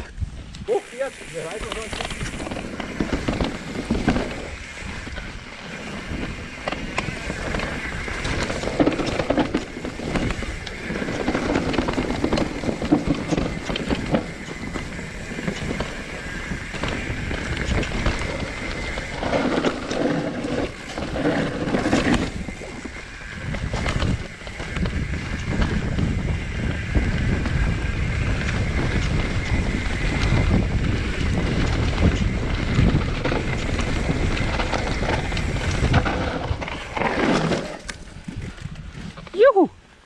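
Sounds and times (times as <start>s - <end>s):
wind buffeting microphone: 0.0s - 39.9s
bike tyres and frame rattling: 0.0s - 40.0s.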